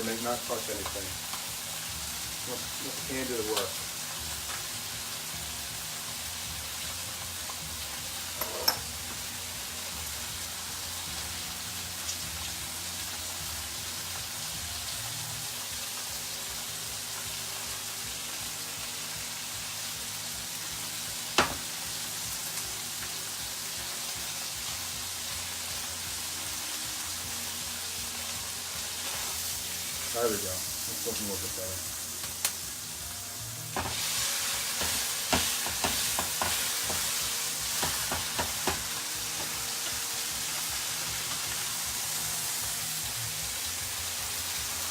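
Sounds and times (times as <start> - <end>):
chicken sizzling in a pan: 0.0 - 44.9.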